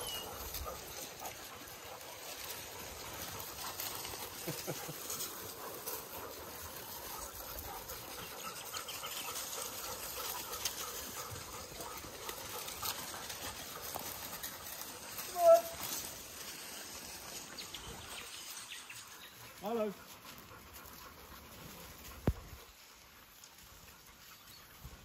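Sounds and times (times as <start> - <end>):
dogs rustling through bush: 0.0 - 25.0
steady outdoor hiss: 0.0 - 25.0.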